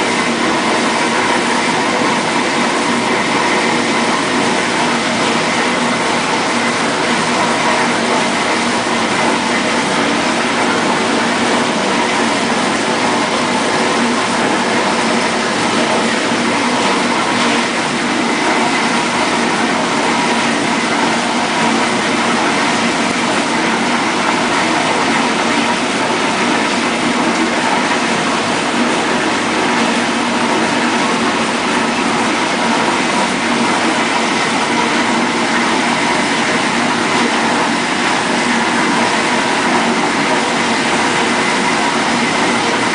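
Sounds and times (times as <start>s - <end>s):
water spraying in dishwasher: 0.0s - 42.9s.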